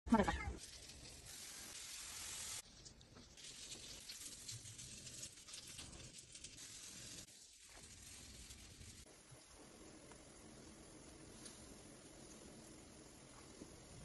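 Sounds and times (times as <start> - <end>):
faint steady hiss: 0.6 - 14.0
soft ticks and crackles: 2.6 - 14.0.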